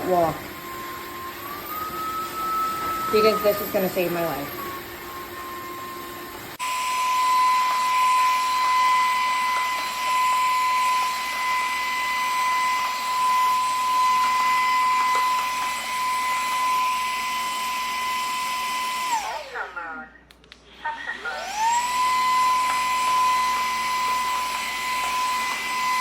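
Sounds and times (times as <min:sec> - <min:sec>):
vacuum mop motor whine: 0:00.0 - 0:20.1, 0:20.7 - 0:26.0.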